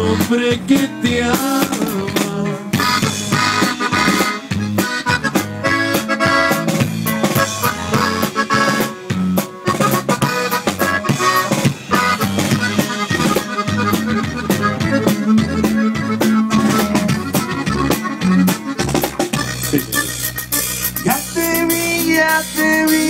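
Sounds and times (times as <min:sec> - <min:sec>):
accordion-led band music: 0:00.0 - 0:23.0.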